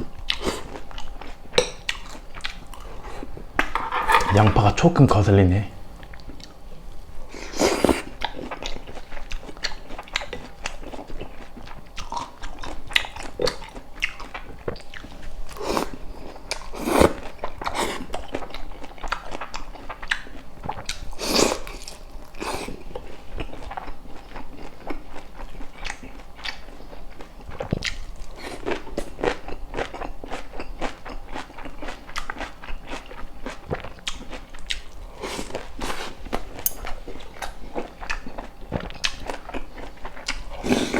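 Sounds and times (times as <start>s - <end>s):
person chewing crunchy food: 0.0s - 4.7s, 7.3s - 40.9s.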